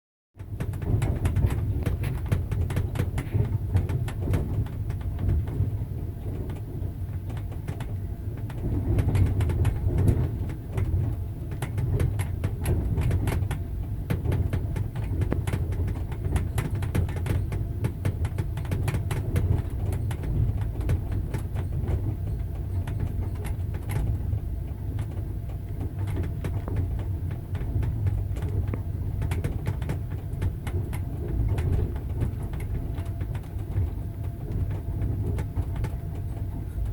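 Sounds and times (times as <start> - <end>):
low rumble of moving carriage: 0.4 - 36.9.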